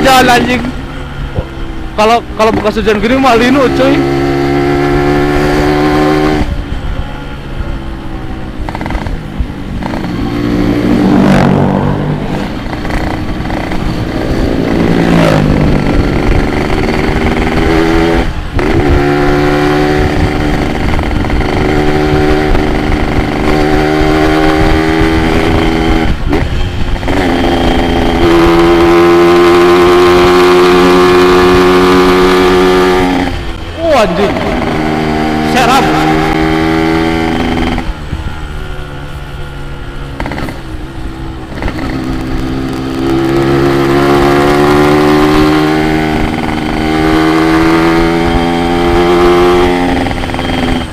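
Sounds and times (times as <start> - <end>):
two-stroke motorcycle engine revving: 0.0 - 7.0, 8.4 - 50.9.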